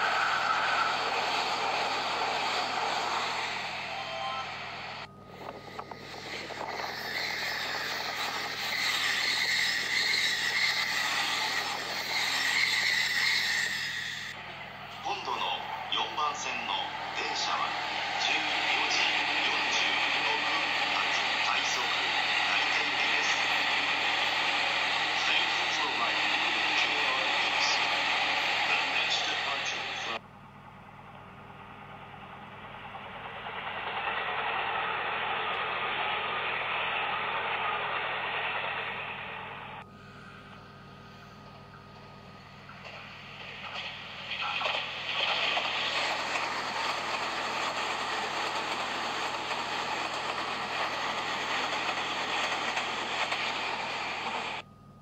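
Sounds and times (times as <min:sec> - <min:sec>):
electric train passing: 0:00.0 - 0:30.2, 0:30.9 - 0:40.4, 0:42.0 - 0:54.7
wheels on rails with high whine: 0:00.0 - 0:54.7.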